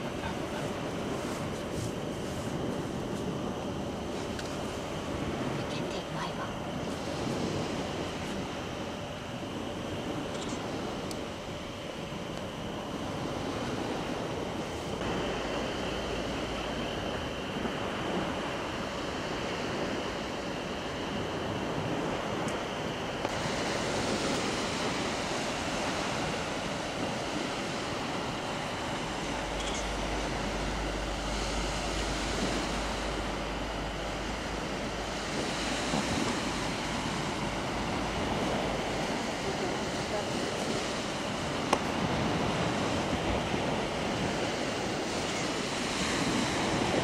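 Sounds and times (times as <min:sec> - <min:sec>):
sea surf washing on beach: 0:00.0 - 0:47.0
wind rumbling on microphone: 0:00.0 - 0:47.0.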